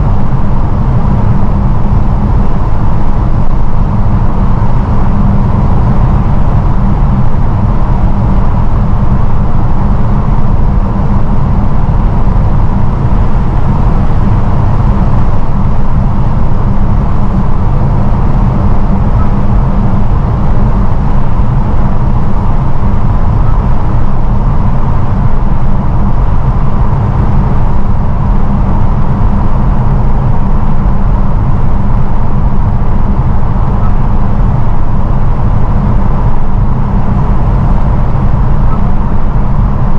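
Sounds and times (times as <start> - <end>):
wind and tyre road noise: 0.0 - 39.9.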